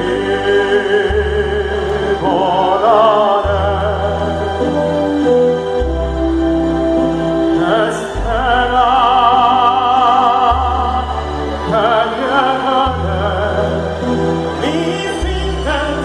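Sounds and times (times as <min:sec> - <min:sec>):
operatic singing with vibrato: 0:00.0 - 0:16.0
orchestral accompaniment with deep bass: 0:00.0 - 0:16.0.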